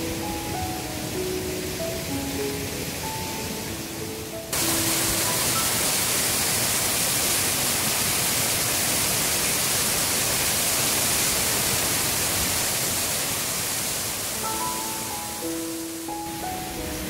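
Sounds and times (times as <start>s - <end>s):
waterfall rushing and splashing: 0.0s - 17.0s.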